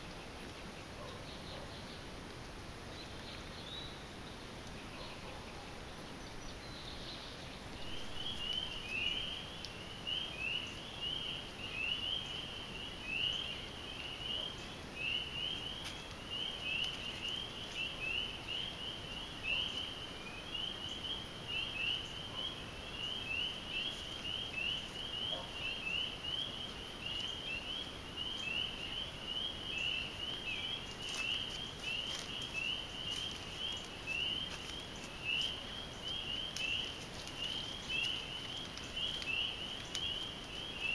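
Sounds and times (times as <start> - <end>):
frogs calling: 7.8 - 40.9.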